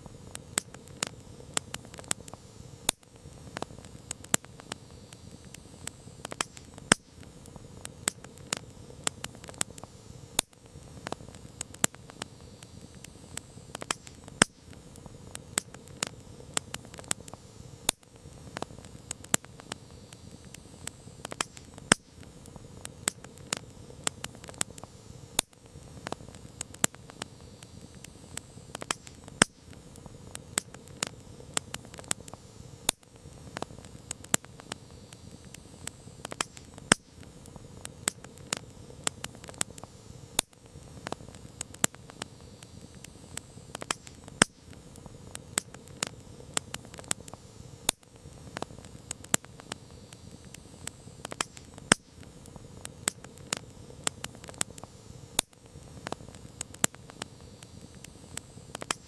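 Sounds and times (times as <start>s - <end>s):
campfire crackling and popping: 0.0s - 59.0s
fire low hiss: 0.0s - 59.0s.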